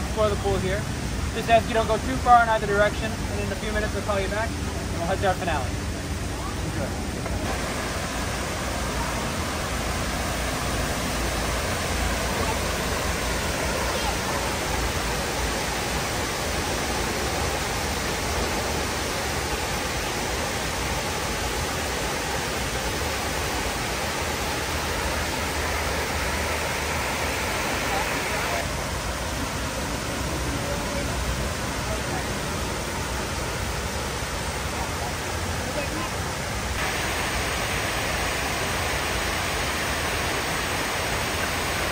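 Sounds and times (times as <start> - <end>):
rush of falling water: 0.0 - 41.9.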